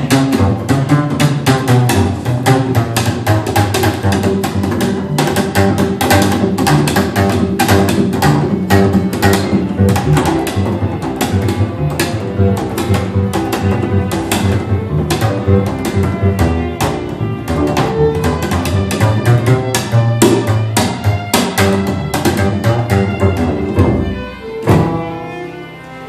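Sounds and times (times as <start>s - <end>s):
double bass plucked notes: 0.0s - 26.0s.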